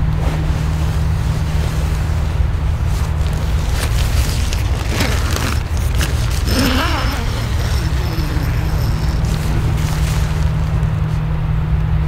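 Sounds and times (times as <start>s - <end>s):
tarp rustling: 0.0s - 11.2s.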